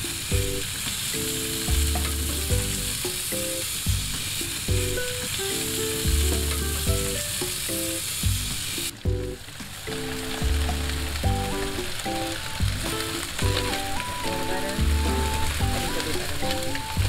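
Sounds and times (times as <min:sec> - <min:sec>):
background music with bass line: 0:00.0 - 0:17.0
sausages sizzling on a grill: 0:00.0 - 0:17.0.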